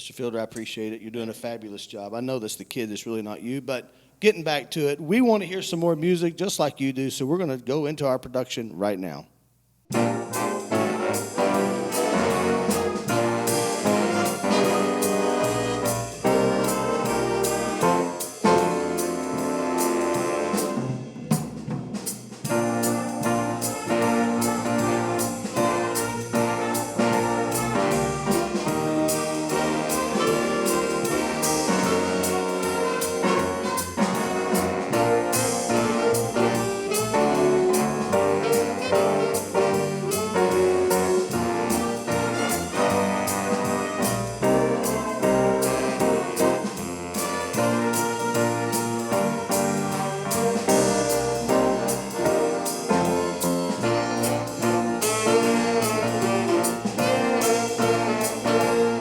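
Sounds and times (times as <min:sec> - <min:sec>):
swing band playing jazz: 0:09.9 - 0:59.0.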